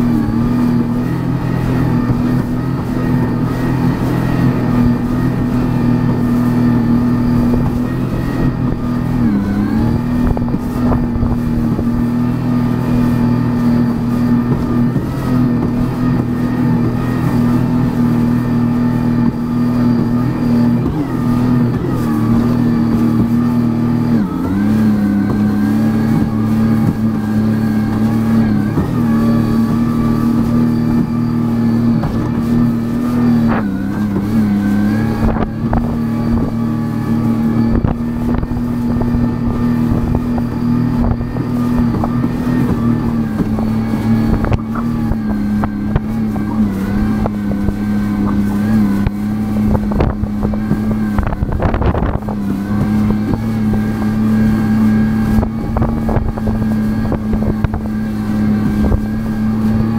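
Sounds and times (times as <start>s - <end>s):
personal watercraft engine: 0.0s - 59.9s.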